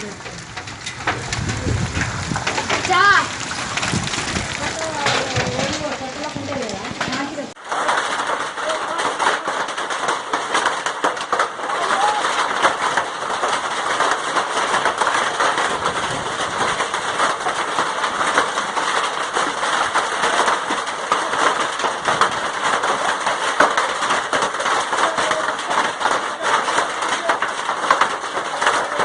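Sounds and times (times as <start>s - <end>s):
hail and rain pelting: 0.0s - 29.0s.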